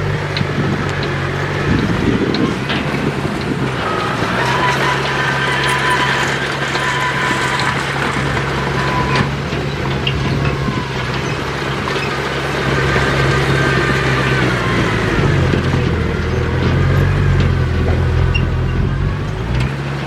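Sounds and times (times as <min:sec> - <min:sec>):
heavy diesel machinery droning: 0:00.0 - 0:20.0.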